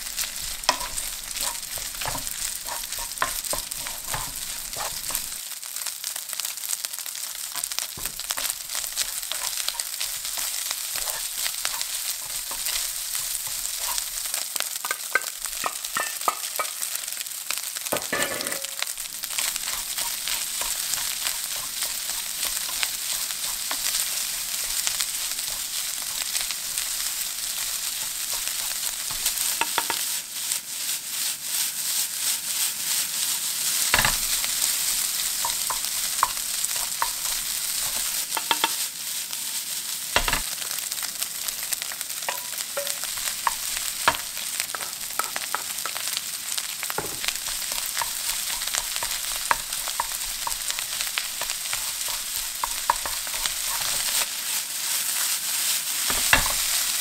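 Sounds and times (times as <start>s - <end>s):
spatula knocking and scraping pan: 0.0s - 5.4s, 7.5s - 16.8s, 18.0s - 30.1s, 33.8s - 38.9s, 40.2s - 46.2s, 46.8s - 54.4s, 56.1s - 56.9s
food sizzling in a frying pan: 0.0s - 57.0s.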